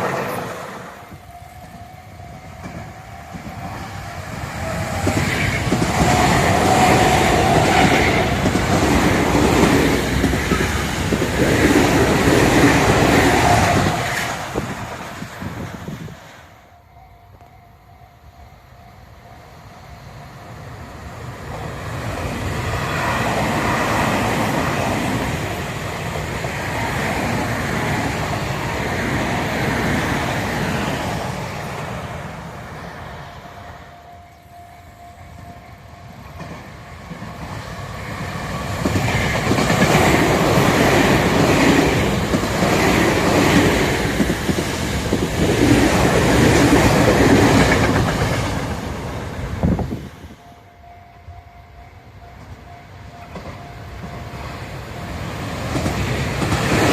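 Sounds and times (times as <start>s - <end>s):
electric trains passing: 0.0s - 56.9s.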